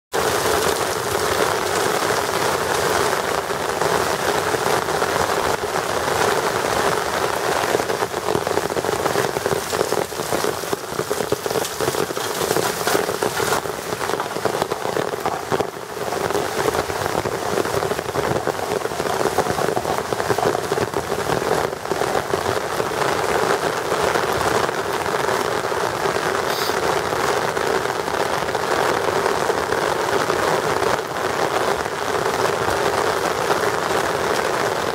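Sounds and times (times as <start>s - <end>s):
rain on wet pavement: 0.1s - 34.9s
rain splashing into water: 0.1s - 34.9s.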